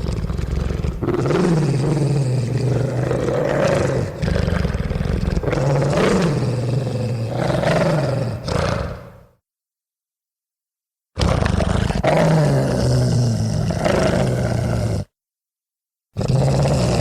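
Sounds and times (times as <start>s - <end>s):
deep growl: 0.0s - 9.4s, 11.2s - 15.1s, 16.2s - 17.0s.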